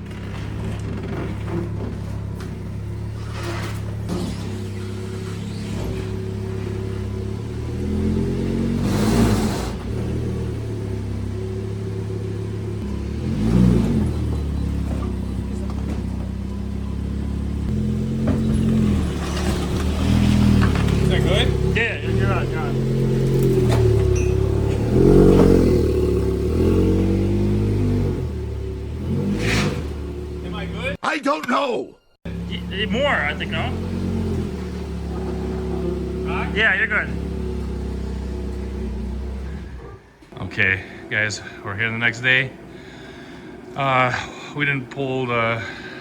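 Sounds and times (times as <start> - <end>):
car engine idling: 0.0 - 31.0, 32.2 - 46.0
engine throttle blips: 0.0 - 31.0, 32.2 - 46.0.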